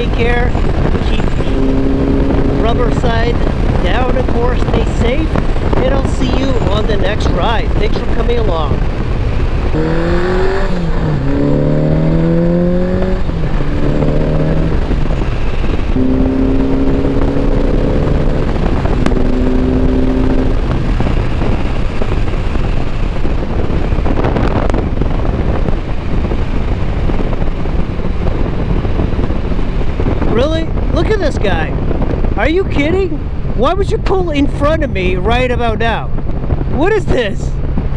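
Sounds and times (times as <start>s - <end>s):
motorcycle engine under way: 0.0s - 31.1s
wind and road noise: 0.0s - 37.9s.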